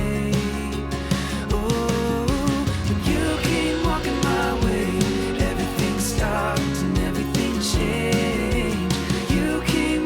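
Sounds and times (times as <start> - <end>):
pop-country song with guitar: 0.0 - 10.0.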